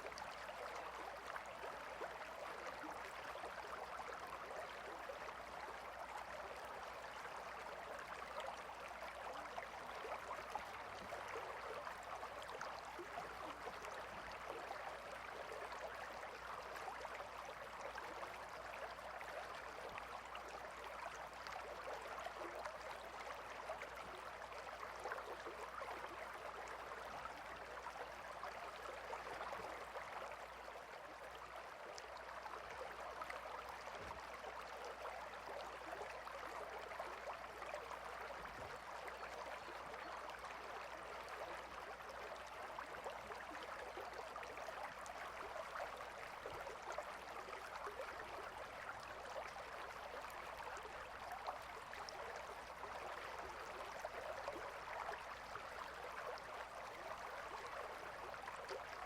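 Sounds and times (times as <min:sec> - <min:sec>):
gentle river flowing: 0:00.0 - 0:59.0.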